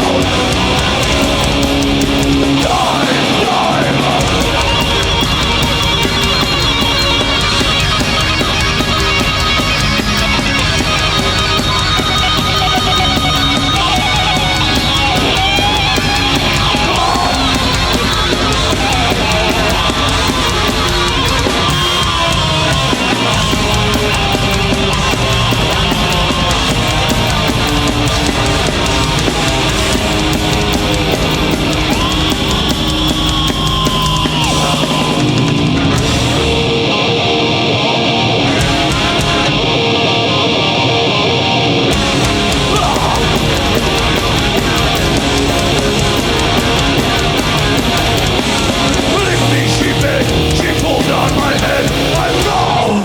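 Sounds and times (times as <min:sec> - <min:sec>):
drum kit: 0:00.0 - 0:37.6, 0:38.4 - 0:40.5, 0:41.9 - 0:53.0
bass guitar: 0:00.0 - 0:53.0
distorted electric guitars: 0:00.0 - 0:53.0.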